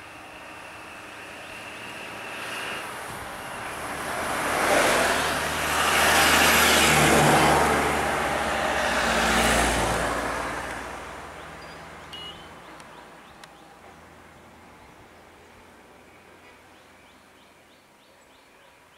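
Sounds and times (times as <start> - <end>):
vehicles passing on road: 0.0 - 18.4.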